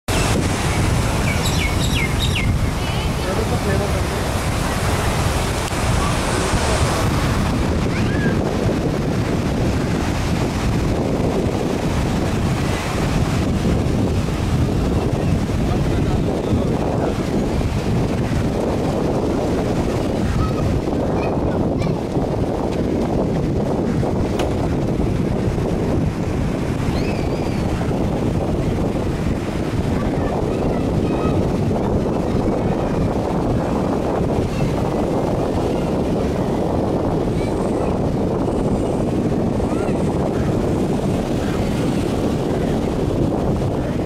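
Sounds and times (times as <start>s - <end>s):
choppy waves breaking: 0.1s - 44.0s
wind buffeting microphone: 0.1s - 44.0s.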